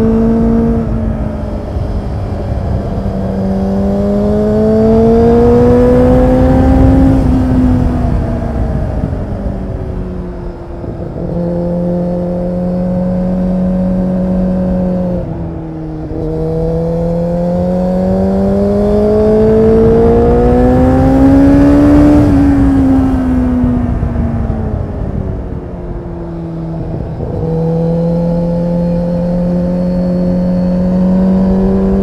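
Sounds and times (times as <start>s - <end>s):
motorbike engine revving: 0.0s - 9.3s, 10.8s - 24.2s, 26.6s - 32.0s
wind noise: 0.0s - 32.0s.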